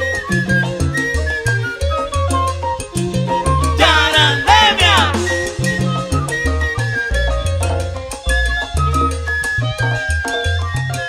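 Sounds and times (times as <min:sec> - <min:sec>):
salsa band music: 0:00.0 - 0:11.0.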